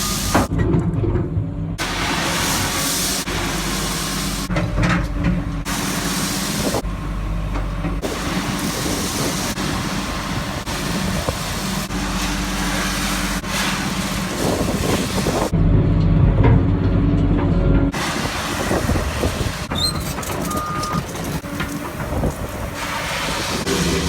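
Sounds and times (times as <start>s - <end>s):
heavy engine hum and hiss: 0.0s - 0.5s, 1.8s - 15.6s, 17.9s - 24.0s.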